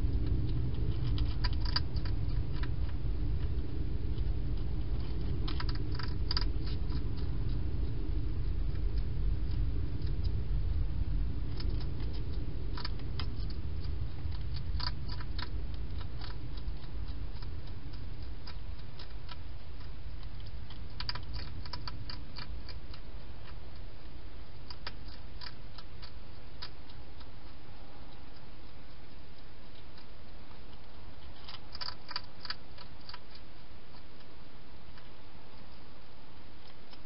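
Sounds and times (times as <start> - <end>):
hedgehog crunching food: 0.0 - 37.0
steady low hum: 0.0 - 37.0.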